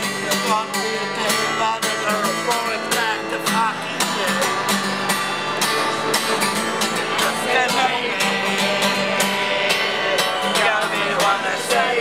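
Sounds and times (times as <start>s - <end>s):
song with strummed guitar: 0.0s - 12.0s.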